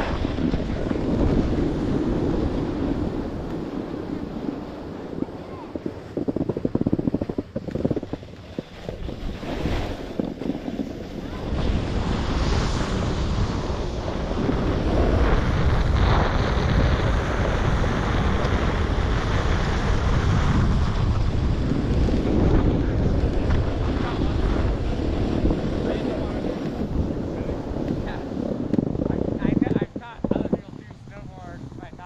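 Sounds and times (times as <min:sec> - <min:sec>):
snowboard sliding over snow: 0:00.0 - 0:32.0
wind buffeting microphone: 0:00.0 - 0:32.0.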